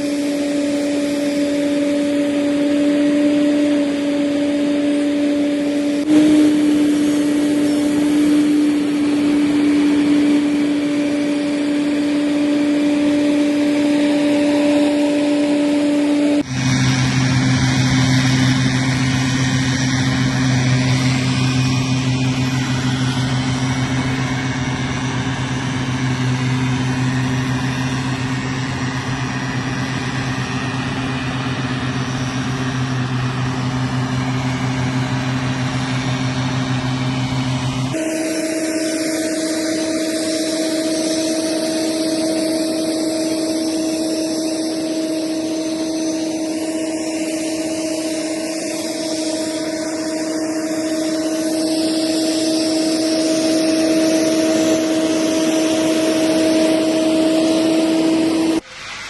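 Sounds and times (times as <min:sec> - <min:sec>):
farm machinery engine humming: 0:00.0 - 0:59.0
high-pitched machine drone: 0:00.0 - 0:59.0.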